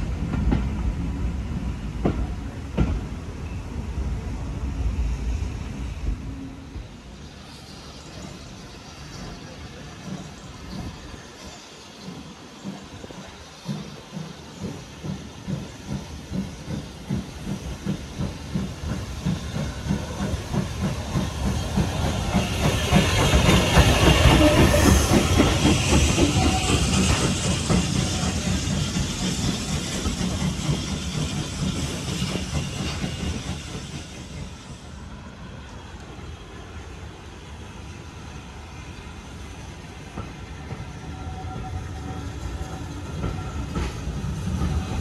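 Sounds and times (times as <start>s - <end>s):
steam locomotive exhaust beats: 0.0s - 36.6s
steam hiss: 0.0s - 45.0s.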